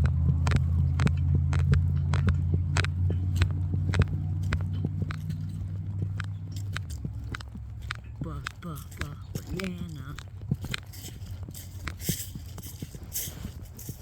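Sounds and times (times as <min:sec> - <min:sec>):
footsteps crunching on a trail: 0:00.0 - 0:14.0
low steady rumble: 0:00.0 - 0:14.0.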